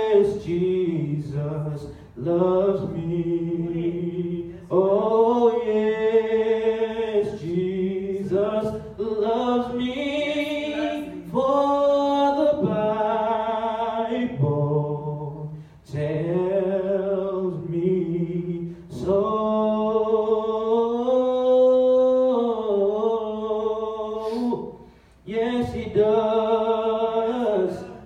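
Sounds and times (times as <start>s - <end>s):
man singing a hymn: 0.0s - 28.0s.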